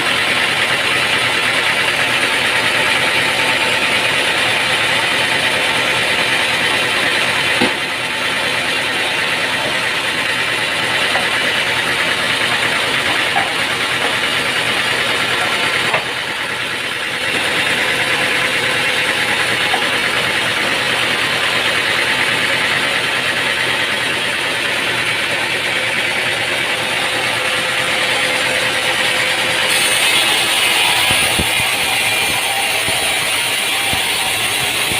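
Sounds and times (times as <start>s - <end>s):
sawmill machinery running: 0.0s - 34.9s.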